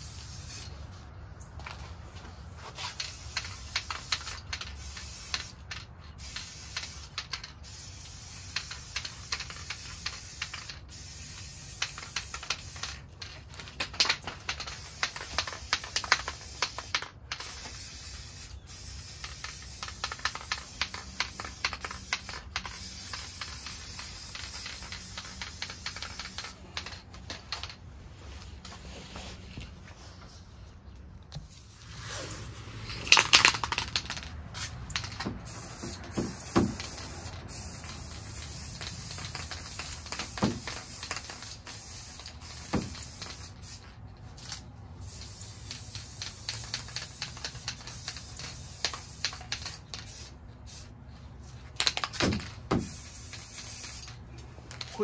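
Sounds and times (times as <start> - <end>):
spray paint can hissing: 0.0 - 27.8, 31.4 - 55.0.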